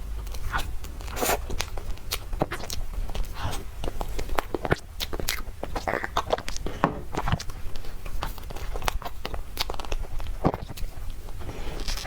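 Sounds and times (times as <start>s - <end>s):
chewing and wet mouth sounds: 0.0s - 12.0s.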